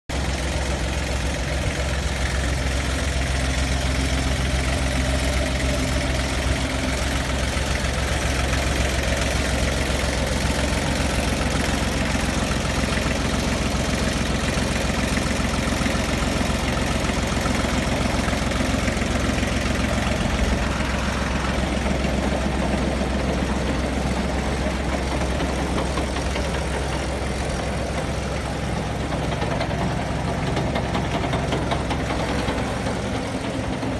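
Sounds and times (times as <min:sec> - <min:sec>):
diesel tractor engine idling: 0:00.1 - 0:33.9.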